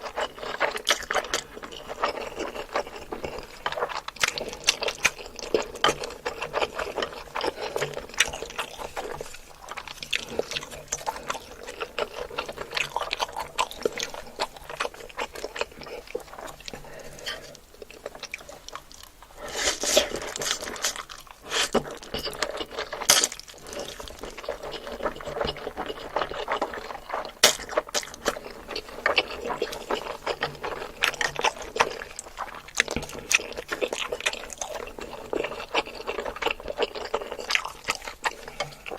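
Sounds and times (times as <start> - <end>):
wet chewing and slurping: 0.0 - 38.9.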